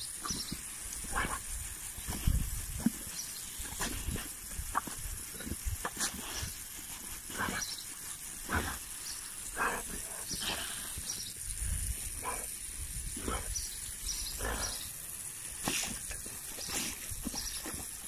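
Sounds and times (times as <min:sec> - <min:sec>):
hose water spray hissing: 0:00.0 - 0:18.0.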